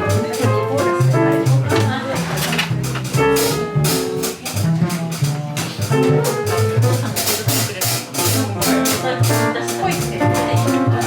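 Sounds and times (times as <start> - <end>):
double bass line: 0.0 - 11.0
jazz band playing: 0.0 - 11.0.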